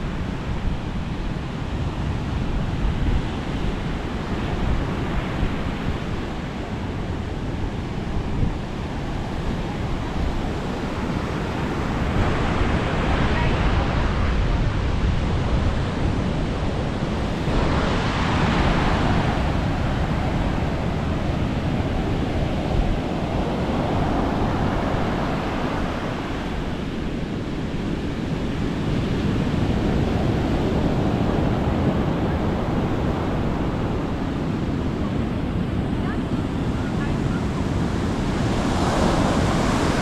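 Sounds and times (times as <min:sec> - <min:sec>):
sea waves breaking on beach: 0:00.0 - 0:40.0
wind buffeting microphone: 0:00.0 - 0:40.0.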